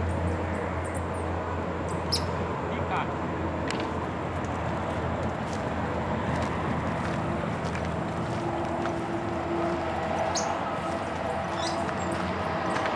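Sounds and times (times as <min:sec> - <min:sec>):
outdoor rumble and hiss: 0:00.0 - 0:12.9.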